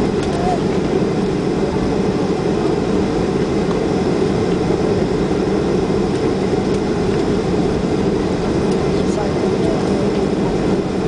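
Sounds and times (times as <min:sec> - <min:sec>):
jet engines running steadily: 0:00.0 - 0:11.0
rumble of airliner rolling: 0:00.0 - 0:11.0.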